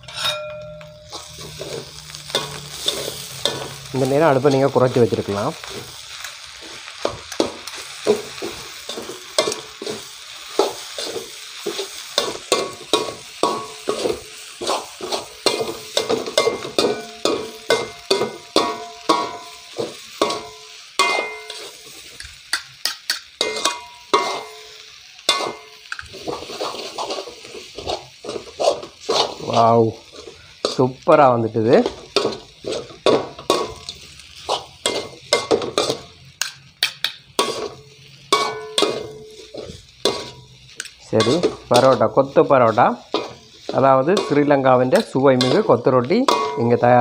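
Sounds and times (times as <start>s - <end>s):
wok ringing: 0.0s - 26.2s, 27.8s - 47.0s
frying sizzle: 0.0s - 47.0s
utensils clanking in a wok: 0.0s - 47.0s.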